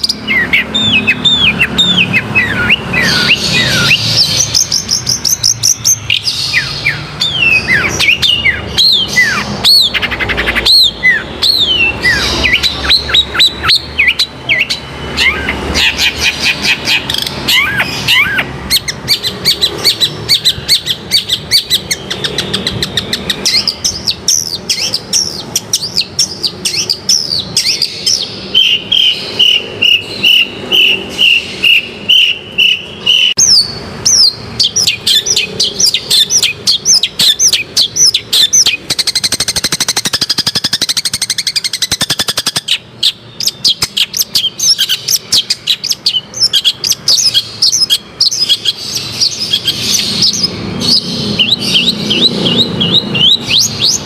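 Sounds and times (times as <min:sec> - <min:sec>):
bird singing rapid chatter: 0:00.0 - 0:54.0.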